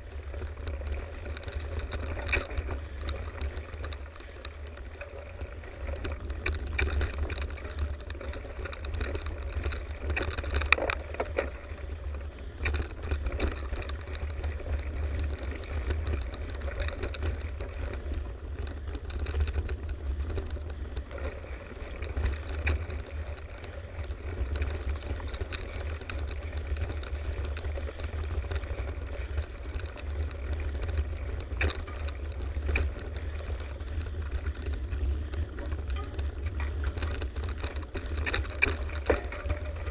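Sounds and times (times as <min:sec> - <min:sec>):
bike frame rattling: 0:00.0 - 0:39.9
bike tyres on dirt trail: 0:00.0 - 0:39.9
wind rumble on microphone: 0:00.0 - 0:39.9.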